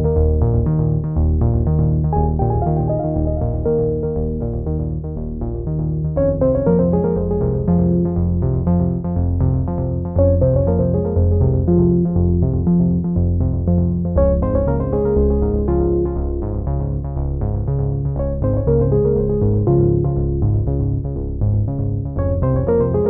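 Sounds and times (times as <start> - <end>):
synthesizer music with bass line: 0.0 - 23.0.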